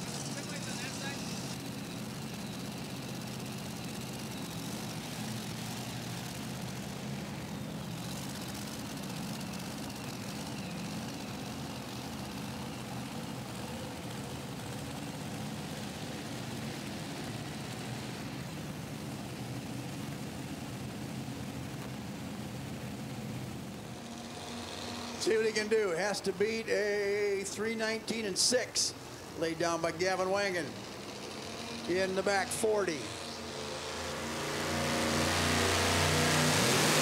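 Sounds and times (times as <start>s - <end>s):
truck engine droning under load: 0.0s - 37.0s.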